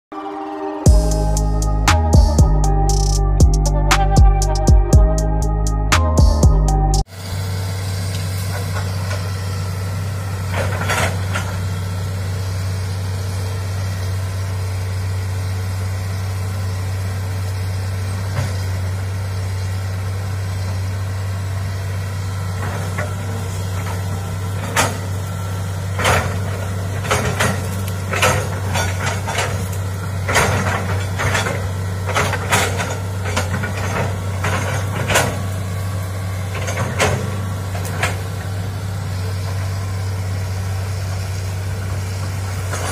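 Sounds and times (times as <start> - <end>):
excavator diesel engine droning: 0.1 - 42.9.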